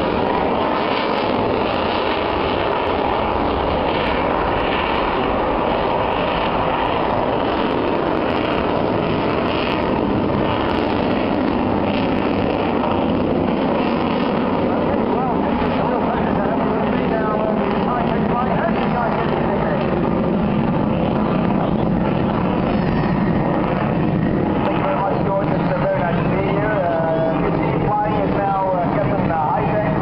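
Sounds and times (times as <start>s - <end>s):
aircraft engine running: 0.0s - 30.0s.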